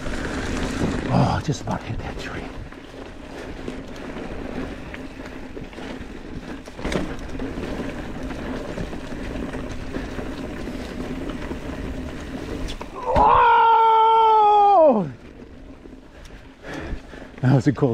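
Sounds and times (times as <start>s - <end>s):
bike tyres rumbling on dirt: 0.0s - 17.9s.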